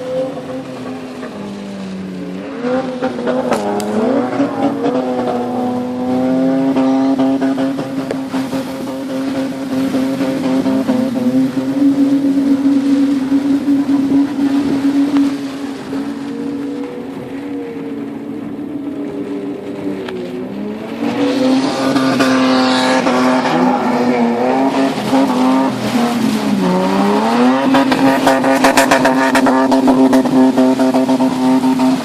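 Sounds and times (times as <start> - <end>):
vehicle engine revving: 0.0 - 17.2, 18.4 - 32.0.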